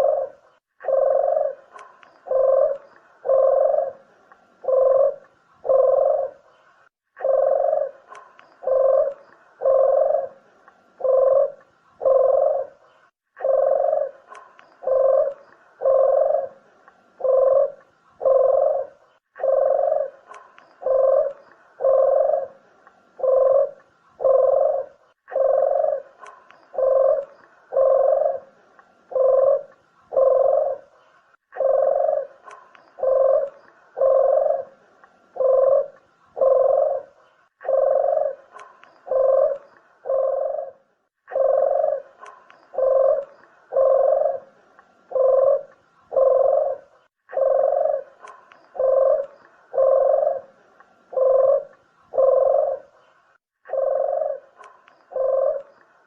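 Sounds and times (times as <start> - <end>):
dove cooing: 0.0 - 6.6, 7.2 - 56.0.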